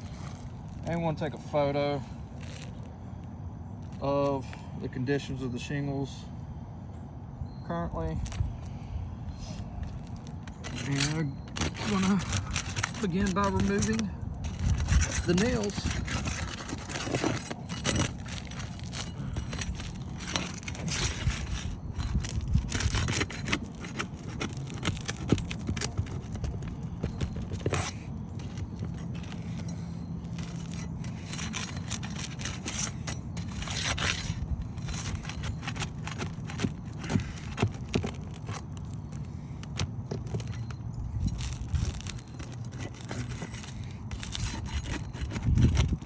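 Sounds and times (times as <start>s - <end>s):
pry bar scraping under shingles: 0.0s - 46.0s.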